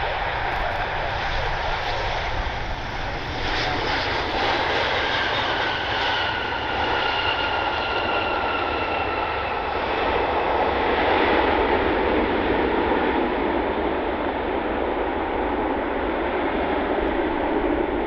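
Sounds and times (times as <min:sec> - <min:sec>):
jet engine fan whine: 0:00.0 - 0:18.0
jet engine roar: 0:00.0 - 0:18.0.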